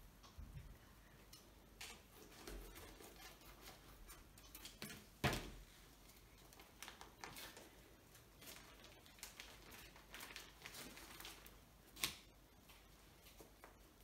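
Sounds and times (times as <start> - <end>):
plastic packaging rustling: 1.8 - 13.9.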